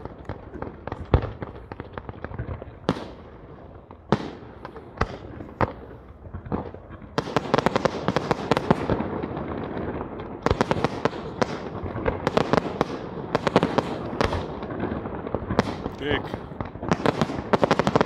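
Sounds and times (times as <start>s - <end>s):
fireworks bangs and crackle: 0.0s - 18.0s.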